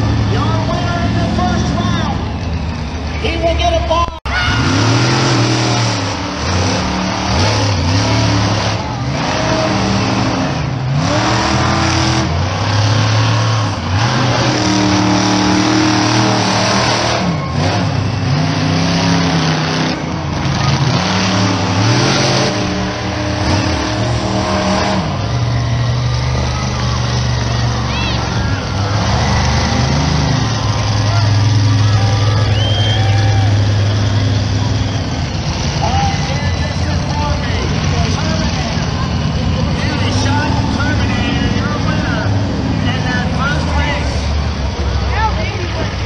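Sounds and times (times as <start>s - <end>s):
monster truck engine revving: 0.0s - 46.0s.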